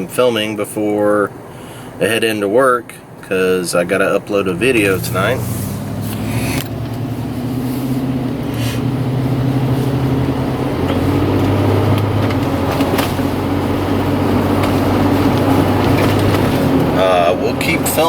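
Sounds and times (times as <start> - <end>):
car engine hum: 0.0 - 18.0
road noise inside car: 0.0 - 18.0.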